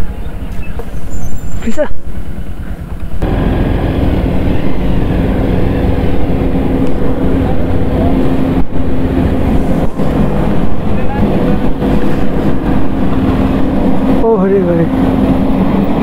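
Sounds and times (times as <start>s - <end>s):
heavy machinery drone: 0.0s - 16.0s
motorcycle engine rumble: 0.0s - 16.0s.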